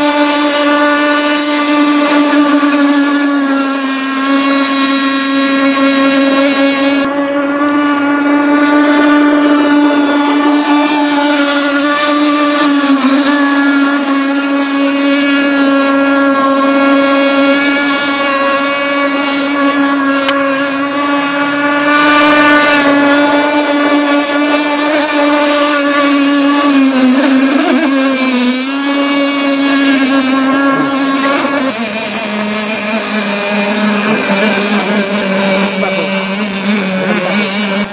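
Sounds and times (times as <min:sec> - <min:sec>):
model boat engine high whine: 0:00.0 - 0:37.9.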